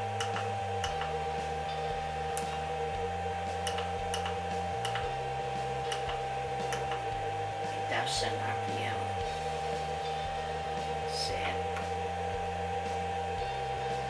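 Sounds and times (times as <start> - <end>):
high-pitched hum: 0.0 - 14.0.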